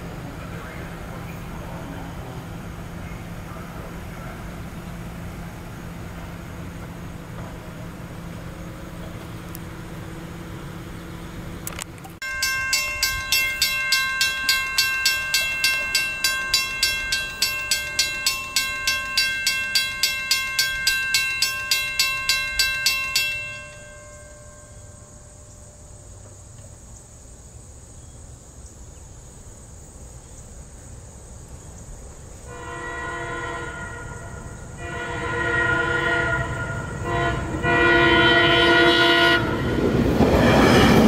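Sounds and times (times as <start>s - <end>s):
crossing warning bell ringing: 0.0s - 26.2s, 32.5s - 41.0s
train humming and rumbling: 0.0s - 41.0s.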